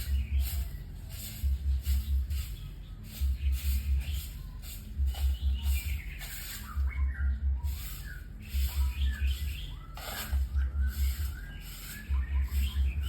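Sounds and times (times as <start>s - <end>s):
bird singing whistles and chirps: 0.0s - 1.0s, 1.6s - 13.0s.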